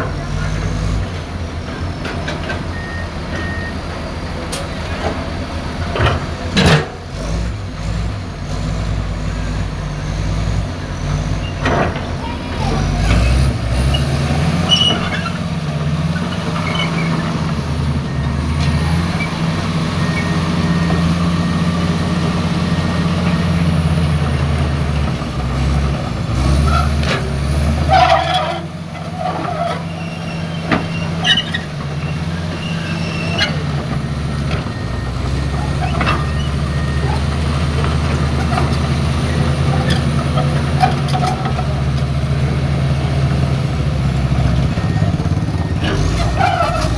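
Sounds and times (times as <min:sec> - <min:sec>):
excavator diesel engine under load: 0:00.0 - 0:46.9.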